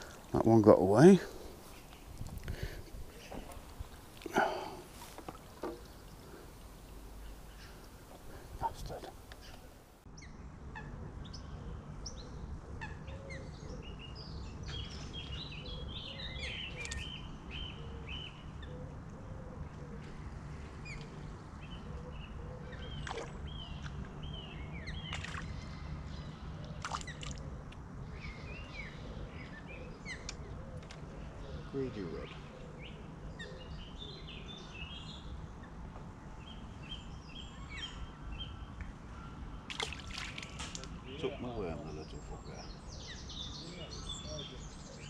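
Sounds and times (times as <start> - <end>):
small birds chirping: 0.0 - 19.0, 19.6 - 45.0.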